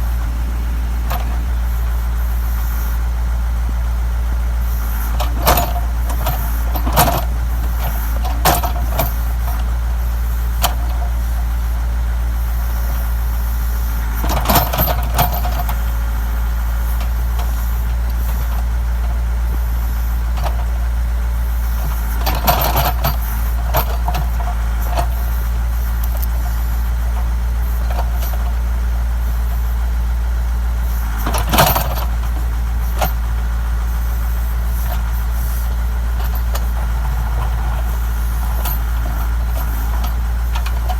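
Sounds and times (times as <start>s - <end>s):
backhoe engine droning: 0.0s - 40.9s.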